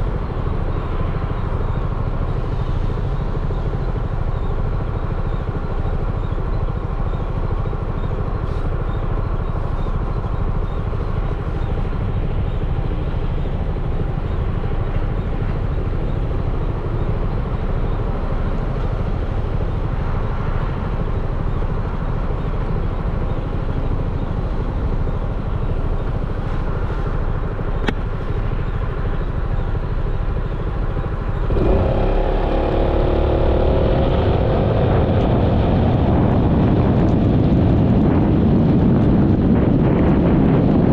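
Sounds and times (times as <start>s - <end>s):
road and wind rumble: 0.0s - 40.9s
scooter engine running: 0.0s - 40.9s.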